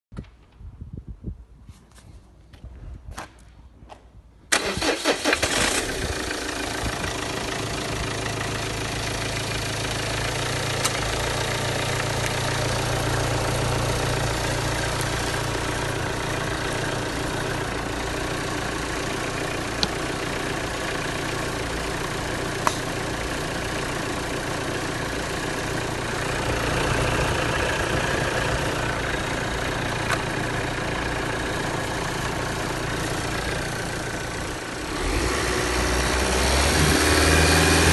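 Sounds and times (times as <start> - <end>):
diesel engine starting and idling: 4.5 - 37.9.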